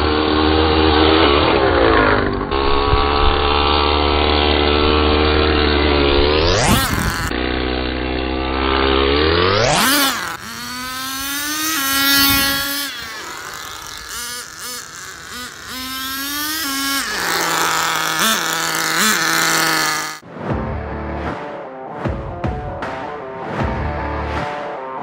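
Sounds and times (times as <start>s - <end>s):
model engine revving: 0.0s - 20.2s.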